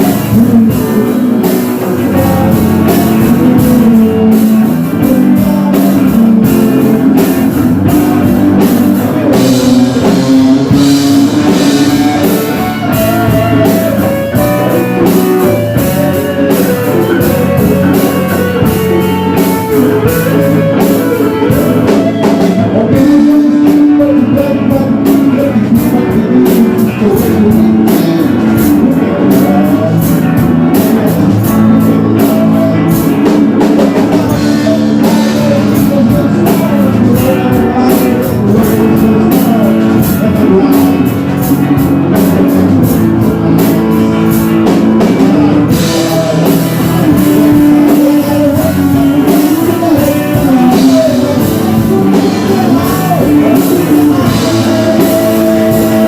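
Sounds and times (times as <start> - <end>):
drum kit beat: 0.0 - 56.0
rock guitar: 0.0 - 56.0.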